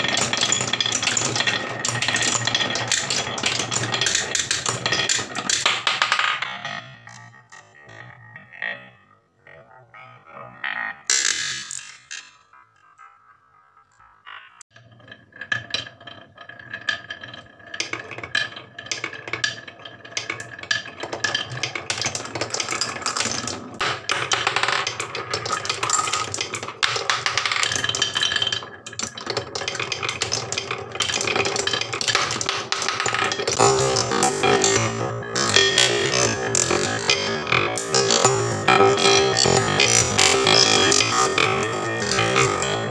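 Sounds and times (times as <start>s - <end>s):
wooden marbles rolling and clacking: 0.0s - 8.1s, 10.9s - 13.2s, 14.5s - 42.9s.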